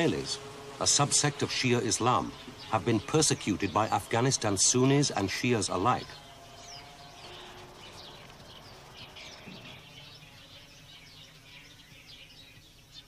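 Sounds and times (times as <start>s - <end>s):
low background hiss: 0.0s - 13.0s
small birds chirping: 0.0s - 13.0s.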